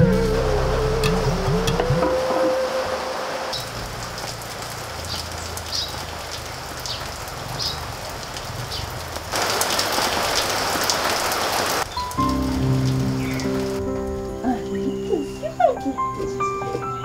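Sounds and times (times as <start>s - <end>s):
steady rain falling: 0.0s - 16.4s.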